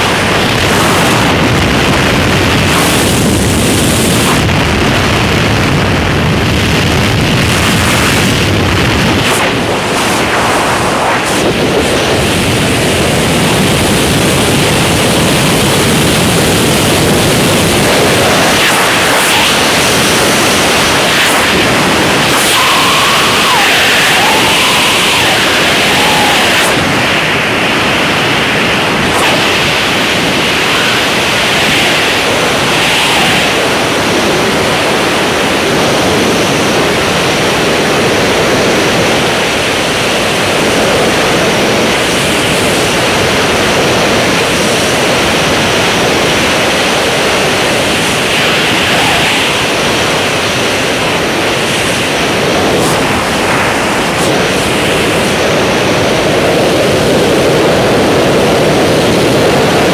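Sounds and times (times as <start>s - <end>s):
rush of freefall wind: 0.0s - 59.9s.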